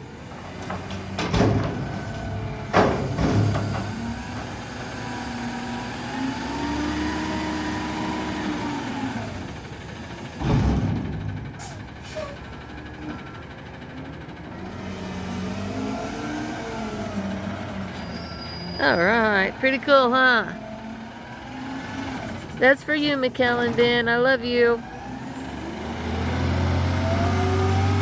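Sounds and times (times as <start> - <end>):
garbage truck engine revving: 0.0 - 28.0.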